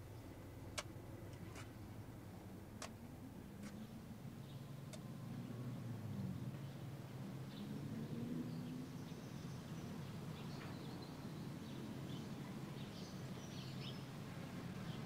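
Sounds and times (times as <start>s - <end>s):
small birds chirping: 0.0s - 7.8s, 8.5s - 15.0s.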